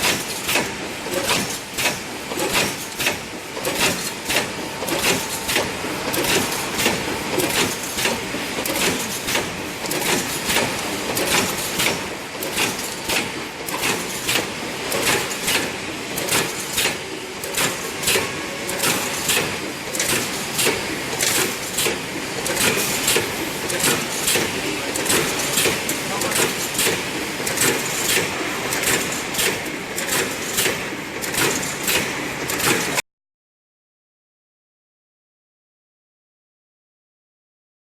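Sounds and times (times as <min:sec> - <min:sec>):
rhythmic welding machine clatter: 0:00.0 - 0:33.0
steady machine noise: 0:00.0 - 0:33.0.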